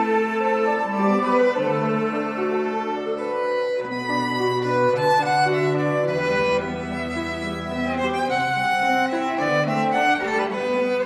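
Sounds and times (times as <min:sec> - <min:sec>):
violins playing melody: 0:00.0 - 0:11.0.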